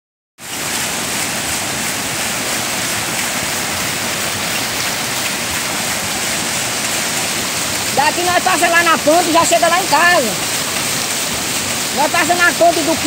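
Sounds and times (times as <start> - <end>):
river water rushing over rapids: 0.4 - 13.0
water wheel splashing: 0.4 - 13.0.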